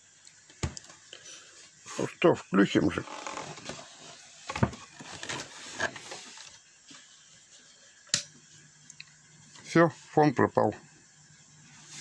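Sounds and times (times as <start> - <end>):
faint steady background noise: 0.0 - 12.0.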